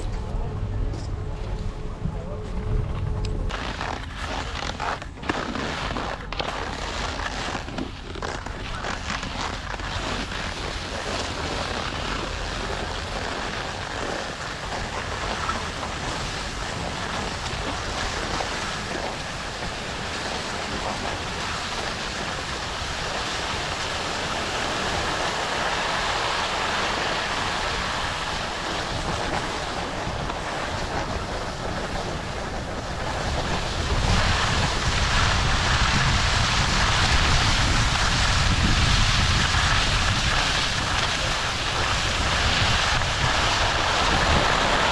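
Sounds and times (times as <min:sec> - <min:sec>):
skis scraping over snow: 0:03.5 - 0:44.9
wind buffeting microphone: 0:06.7 - 0:44.9.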